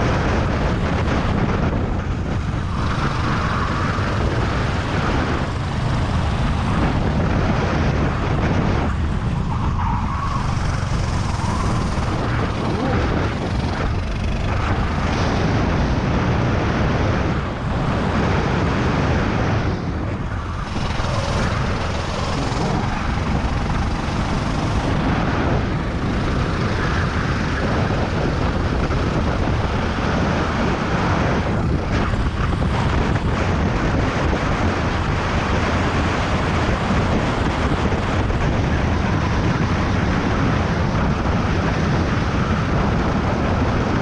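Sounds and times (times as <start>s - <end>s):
kart engine revving: 0.0s - 43.7s
wind rushing over microphone: 0.0s - 44.0s.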